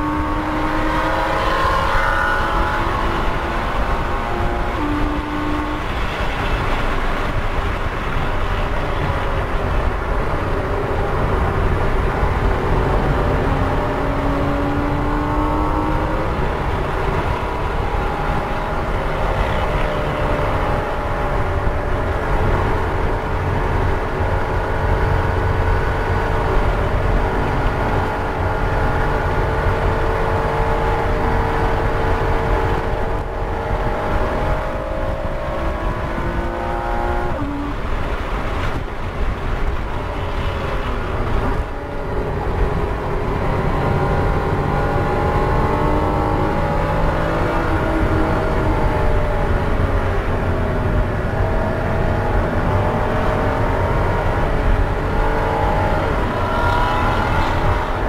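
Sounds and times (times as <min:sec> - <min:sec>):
car engine revving at high revs: 0:00.0 - 0:58.0
road and tyre noise: 0:00.0 - 0:58.0.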